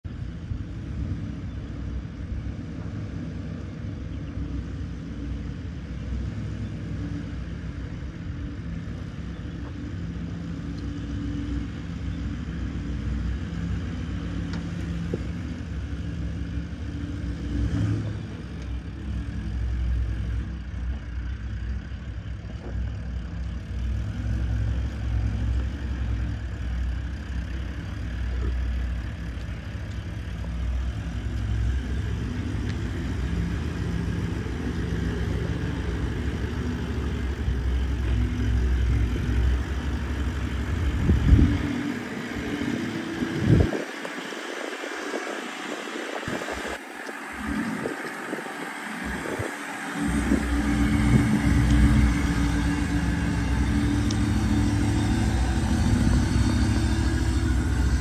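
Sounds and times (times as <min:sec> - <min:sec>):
truck engine low rumble: 0:00.0 - 0:58.0.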